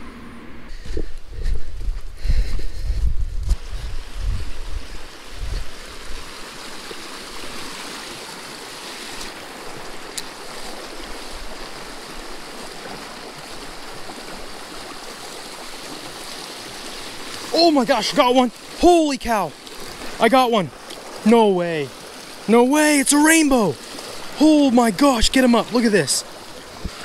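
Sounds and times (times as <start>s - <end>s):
stream rushing over rocks: 3.7s - 27.0s.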